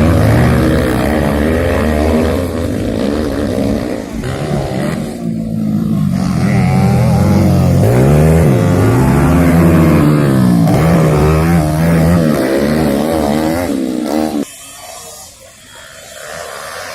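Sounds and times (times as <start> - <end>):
motocross engines revving: 0.0 - 16.9.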